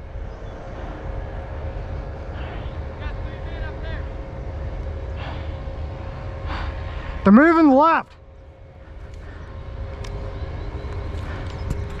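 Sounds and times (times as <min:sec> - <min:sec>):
low rumble against microphone: 0:00.0 - 0:12.0.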